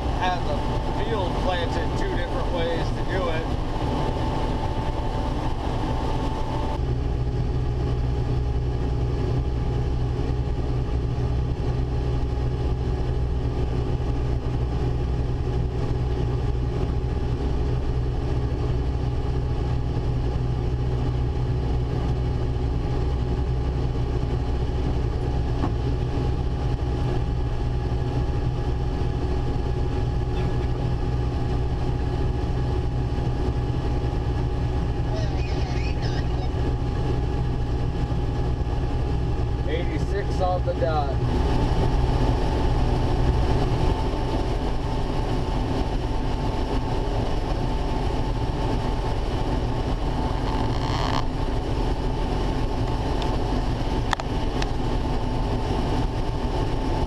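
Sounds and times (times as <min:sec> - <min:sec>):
combine harvester engine drone: 0:00.0 - 0:57.0
faint steady whine: 0:00.0 - 0:57.0.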